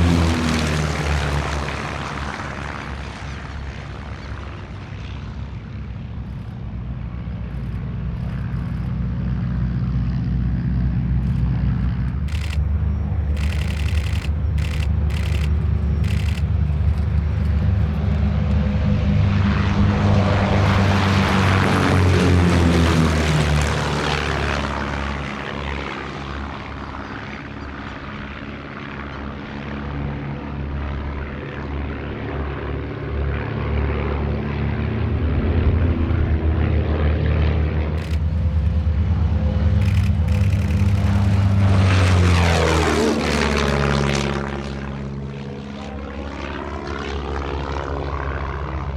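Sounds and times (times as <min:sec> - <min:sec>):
propeller planes passing: 0:00.0 - 0:48.9.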